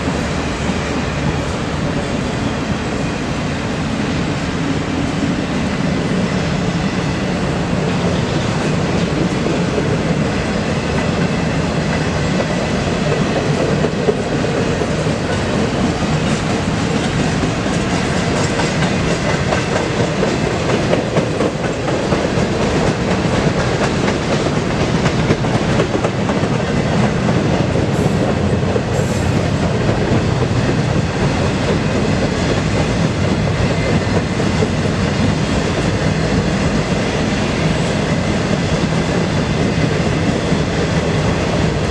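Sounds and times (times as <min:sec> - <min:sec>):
freight train wheels clacking: 0:00.0 - 0:41.9.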